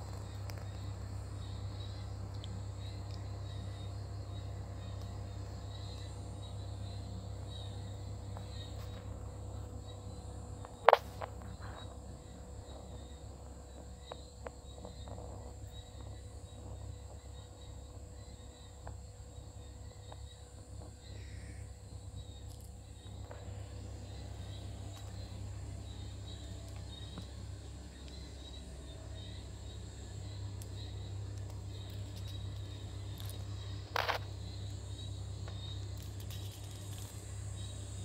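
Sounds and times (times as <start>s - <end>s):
insects chirring: 0.0s - 38.0s
low continuous hum: 0.0s - 38.0s.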